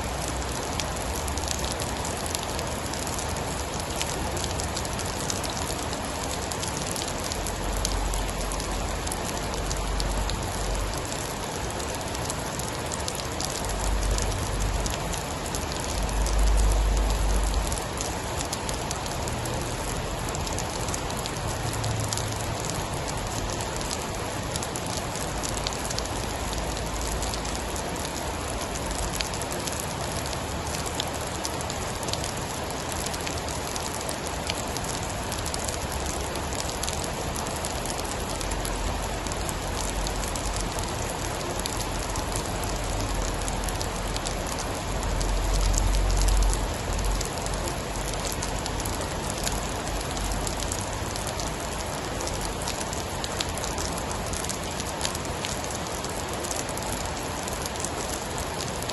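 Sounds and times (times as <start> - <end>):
heavy rain: 0.0 - 58.9.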